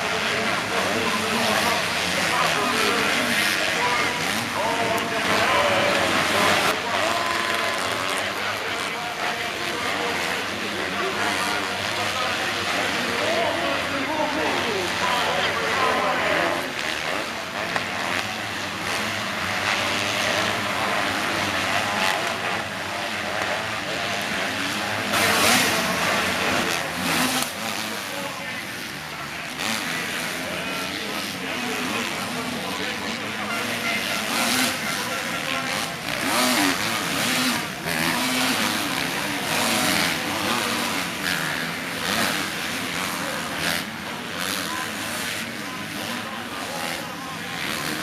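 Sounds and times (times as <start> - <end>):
motocross bike engines revving: 0.0 - 48.0.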